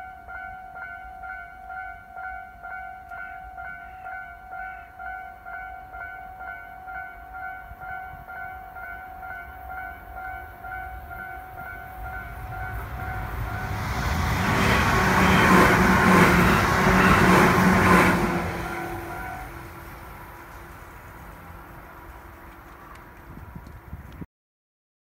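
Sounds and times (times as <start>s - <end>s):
electric train passing: 0.0s - 24.1s.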